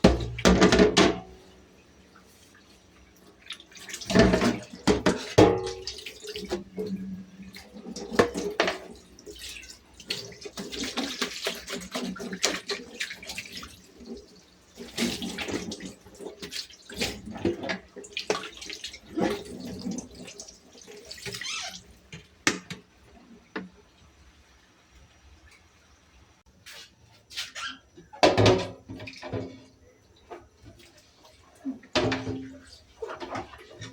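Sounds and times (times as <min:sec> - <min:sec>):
tap water running: 0:00.0 - 0:26.2, 0:27.7 - 0:33.9.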